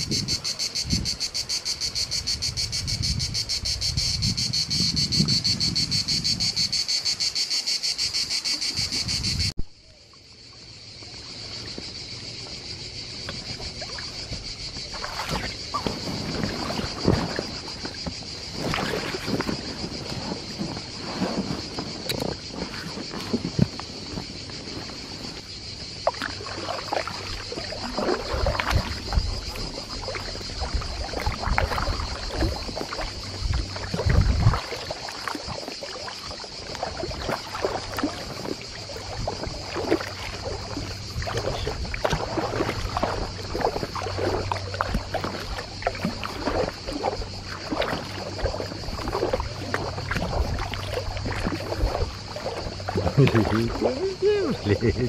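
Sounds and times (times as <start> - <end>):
paddle splashing in water: 10.5 - 55.0.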